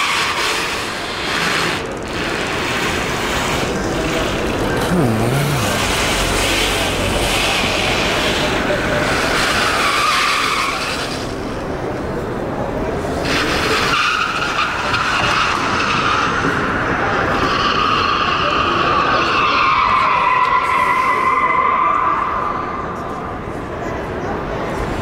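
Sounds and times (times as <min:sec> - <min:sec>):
car tyres squealing: 0:00.0 - 0:11.8, 0:13.0 - 0:23.6.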